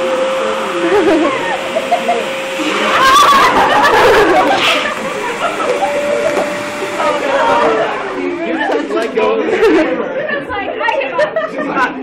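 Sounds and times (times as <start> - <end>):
shop vacuum whining: 0.0 - 10.0
people chattering: 0.0 - 12.0
people giggling: 0.4 - 12.0.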